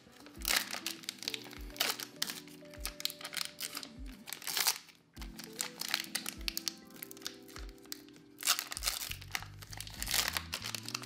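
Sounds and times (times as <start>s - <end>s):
background music with steady beat: 0.0s - 11.0s
foil wrapper crinkling and tearing: 0.0s - 11.0s.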